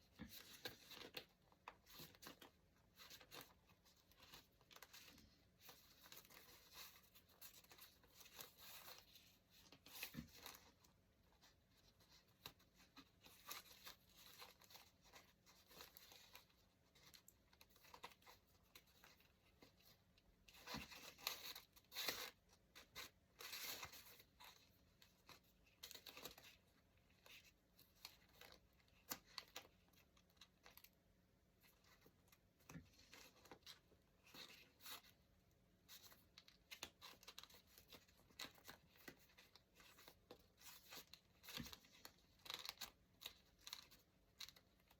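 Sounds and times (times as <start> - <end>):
small clicks and scratches: 0.0 - 44.9.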